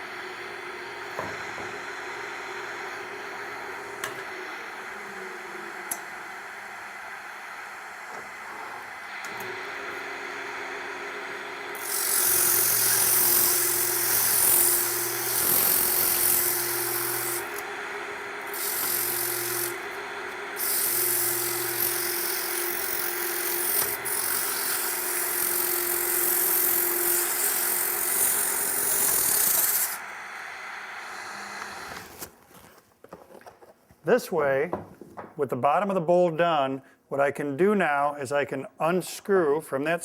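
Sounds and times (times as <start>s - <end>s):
lathe motor humming: 0.0s - 32.3s
turning tool shaving wood: 0.0s - 32.4s.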